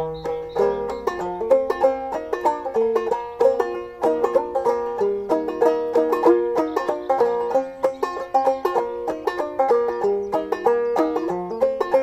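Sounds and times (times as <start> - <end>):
banjo playing: 0.0 - 12.0.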